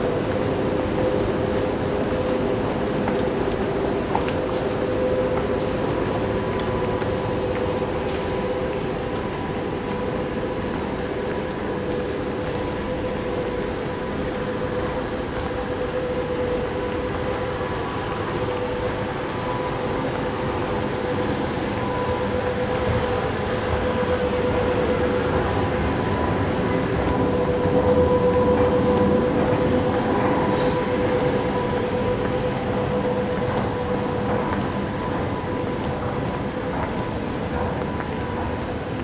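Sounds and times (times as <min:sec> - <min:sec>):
steady hum: 0:00.0 - 0:39.0
underground train rumble: 0:00.0 - 0:39.0.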